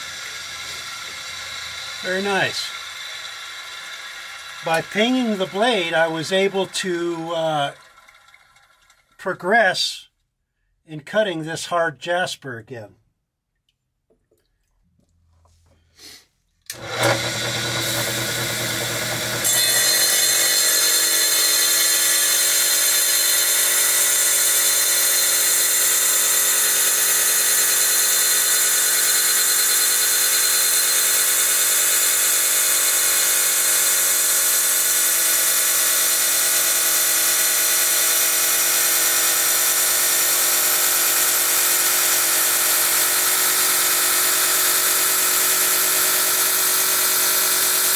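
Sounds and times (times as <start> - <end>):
saw blade cutting stone: 0.0 - 7.8, 16.7 - 47.9
wet tile saw running: 0.0 - 9.2, 16.7 - 47.9.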